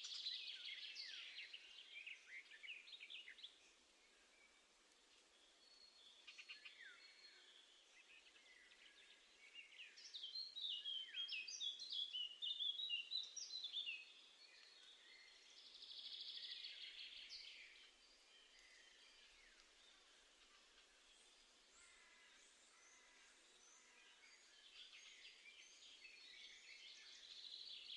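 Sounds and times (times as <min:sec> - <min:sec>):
songbirds chirping and singing: 0:00.0 - 0:27.9.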